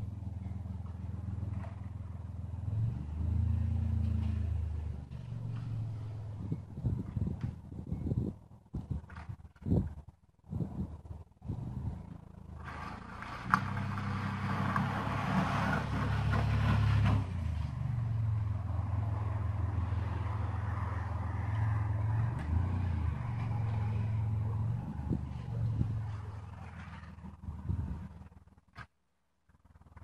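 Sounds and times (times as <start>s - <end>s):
minivan engine humming: 0.0s - 28.8s.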